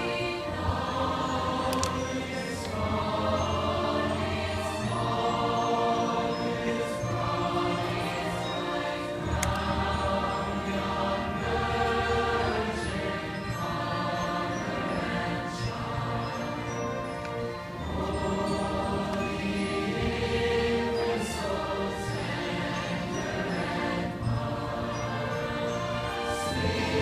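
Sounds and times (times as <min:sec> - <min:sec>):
choir singing a carol: 0:00.0 - 0:27.0.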